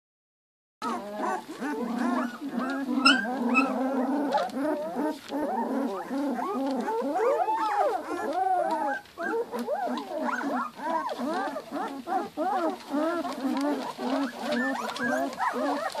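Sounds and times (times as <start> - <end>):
puppies whining and squeaking: 0.8 - 16.0.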